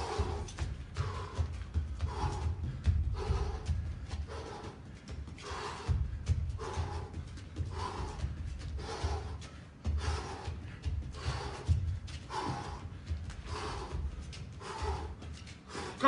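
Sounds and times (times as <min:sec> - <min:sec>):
feet thudding on ring floor: 0:00.0 - 0:13.9.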